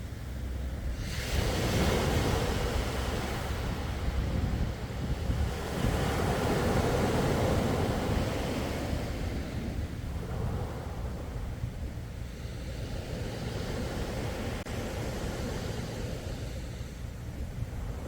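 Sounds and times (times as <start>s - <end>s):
sea waves washing ashore: 0.0s - 18.0s.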